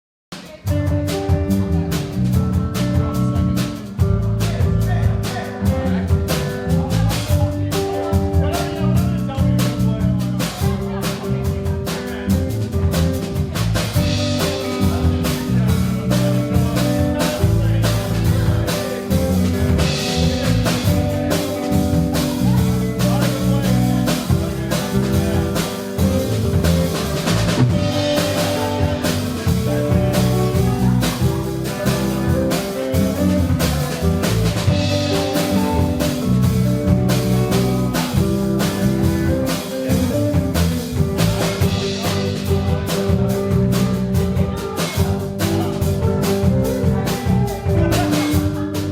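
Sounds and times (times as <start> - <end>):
drum kit: 0.3 - 48.9
rock band playing: 0.3 - 48.9.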